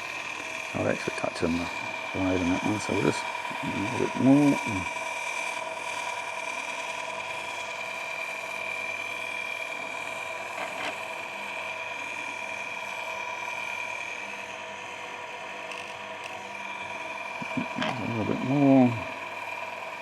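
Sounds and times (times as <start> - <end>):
chainsaw sharpener grinding whine: 0.0 - 20.0.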